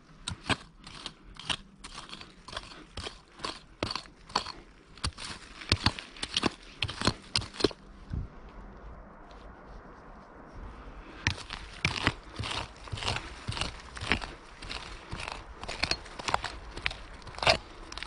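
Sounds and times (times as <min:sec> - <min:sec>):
hand pick striking soil: 0:00.0 - 0:07.8, 0:11.3 - 0:18.0.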